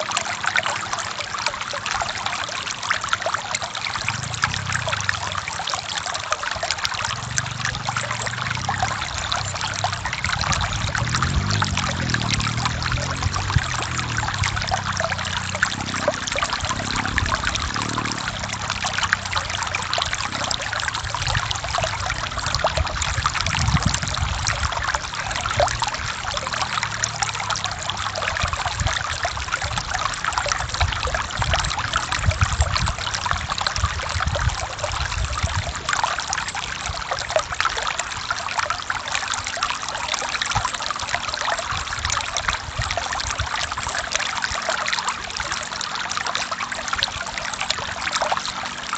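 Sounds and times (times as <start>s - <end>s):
stream flowing over rocks: 0.0s - 48.9s.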